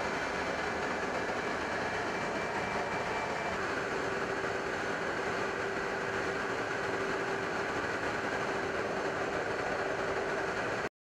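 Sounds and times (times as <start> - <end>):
aircraft engines droning: 0.0 - 10.9.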